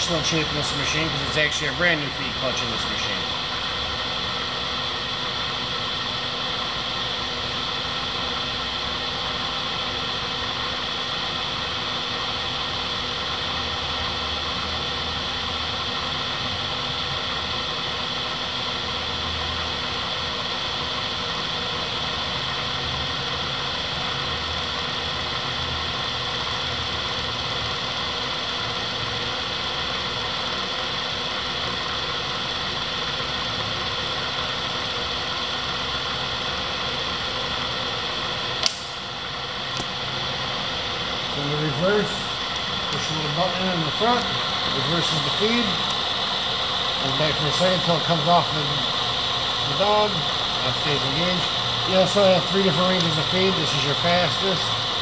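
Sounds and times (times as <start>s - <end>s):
high whine: 0.0s - 55.0s
milling machine motor hum: 0.0s - 55.0s.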